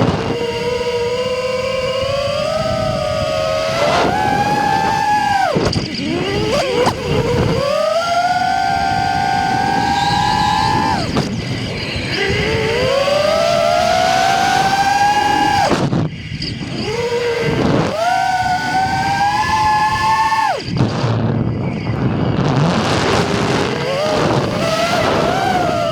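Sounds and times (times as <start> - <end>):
drone motors whining: 0.0 - 25.9.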